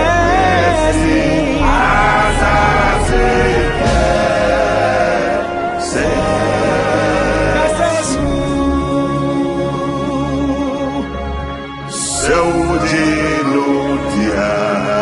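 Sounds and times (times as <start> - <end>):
steady bass line: 0.0 - 13.0
band playing: 0.0 - 15.0
choir singing: 0.0 - 15.0.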